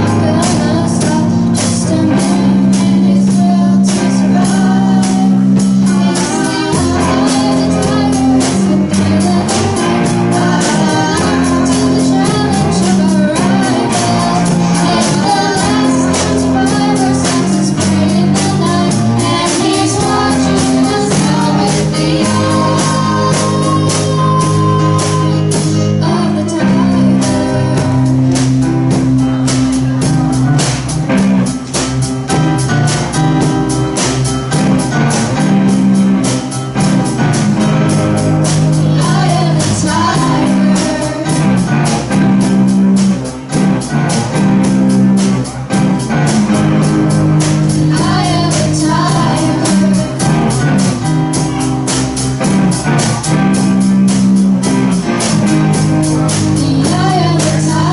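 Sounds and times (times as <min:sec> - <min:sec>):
person singing: 0:00.0 - 0:31.7, 0:37.6 - 0:57.9
drum kit: 0:00.0 - 0:57.9
guitars: 0:00.0 - 0:57.9.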